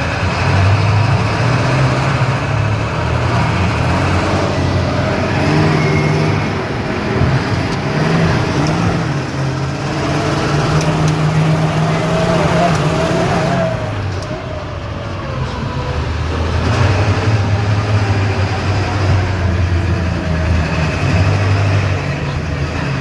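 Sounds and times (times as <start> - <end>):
road noise: 0.0 - 23.0
truck engine revving: 0.0 - 23.0.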